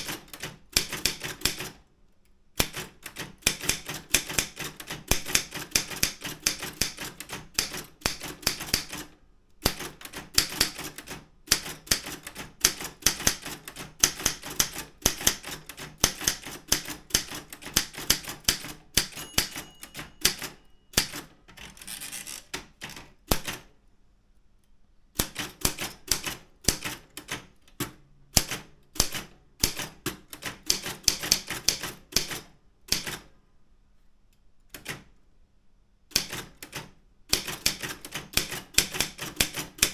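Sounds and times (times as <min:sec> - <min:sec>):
manual typewriter typing: 0:00.0 - 0:01.8, 0:02.6 - 0:23.7, 0:25.2 - 0:33.3, 0:36.1 - 0:39.9.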